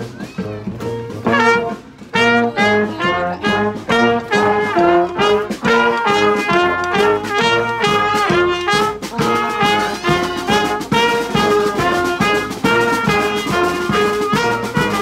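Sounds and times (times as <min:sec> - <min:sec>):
brass band playing rock riff: 0:00.0 - 0:15.0
steady drum beat: 0:00.0 - 0:15.0.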